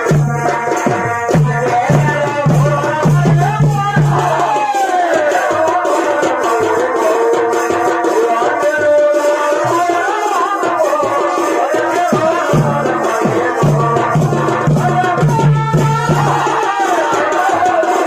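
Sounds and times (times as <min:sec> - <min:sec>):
drums and rattling percussion: 0:00.0 - 0:18.0.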